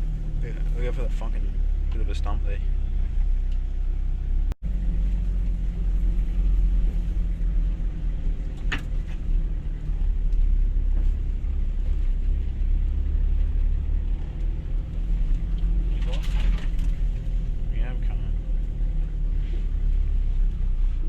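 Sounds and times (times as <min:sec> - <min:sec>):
truck driving over dirt track: 0:03.0 - 0:20.8.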